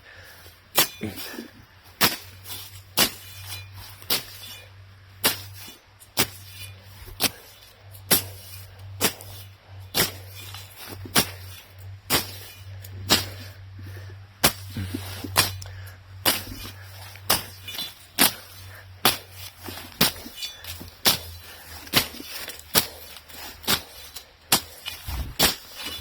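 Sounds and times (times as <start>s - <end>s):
machete hacking woody brush: 0.7s - 13.6s, 14.4s - 26.0s.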